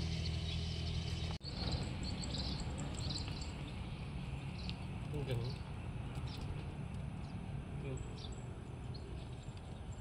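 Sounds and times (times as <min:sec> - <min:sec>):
rural outdoor ambience: 0:00.0 - 0:10.0
steady low hum: 0:00.0 - 0:10.0.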